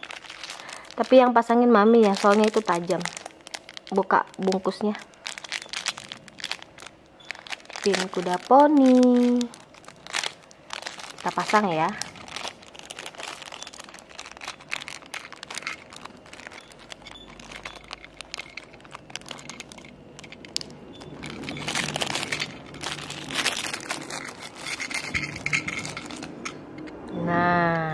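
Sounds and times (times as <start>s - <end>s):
plastic bag crinkling: 0.0s - 26.9s.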